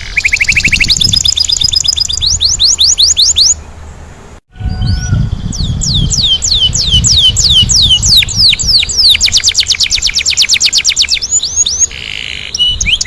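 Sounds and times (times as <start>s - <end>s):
canary singing: 0.0s - 3.8s, 4.6s - 13.0s.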